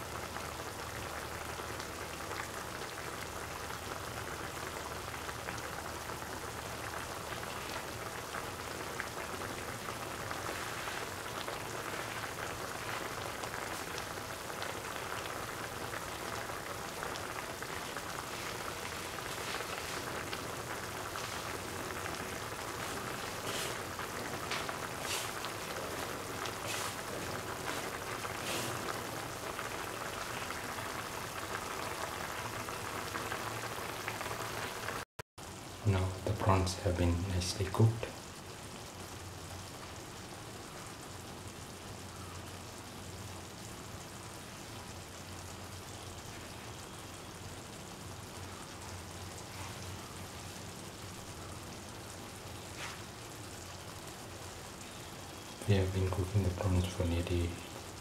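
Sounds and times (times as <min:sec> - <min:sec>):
curry bubbling in a pan: 0:00.0 - 0:58.0.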